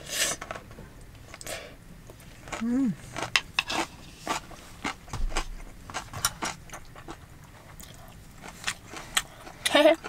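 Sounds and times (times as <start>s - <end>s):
person chewing: 1.3s - 10.0s.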